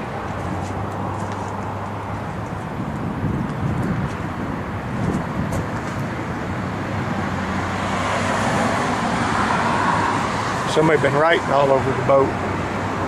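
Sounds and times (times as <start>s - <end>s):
road traffic noise: 0.0s - 13.0s
vehicle approaching: 0.0s - 13.0s.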